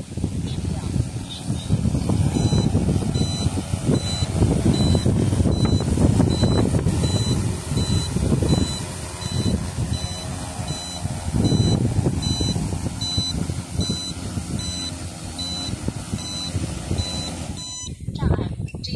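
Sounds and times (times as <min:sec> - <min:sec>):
drone rotors running: 0:00.0 - 0:18.1.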